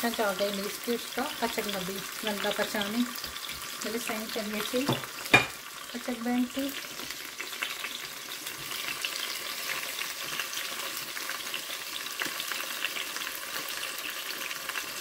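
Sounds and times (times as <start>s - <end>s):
chicken sizzling in frying oil: 0.0s - 15.0s.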